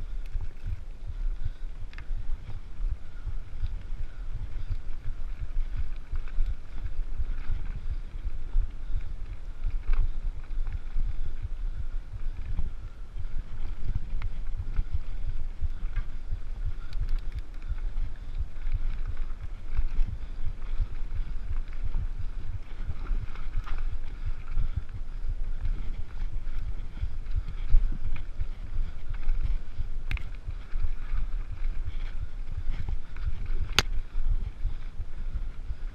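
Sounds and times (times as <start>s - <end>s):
bike clicks and rattles: 0.0s - 35.9s
tyres on dirt trail: 0.0s - 35.9s
wind rumble on microphone: 0.0s - 35.9s.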